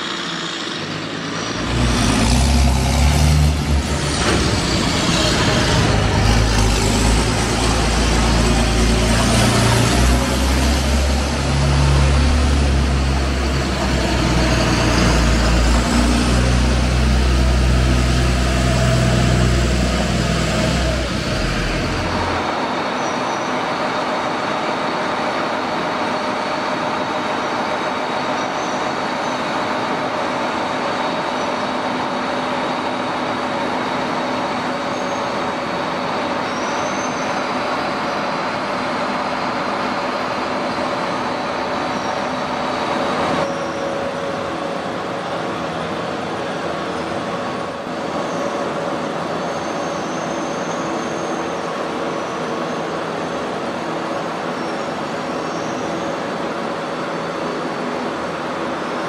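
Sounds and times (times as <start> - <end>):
conveyor belts running: 0.0 - 59.0
tractor diesel engine running: 0.0 - 59.0.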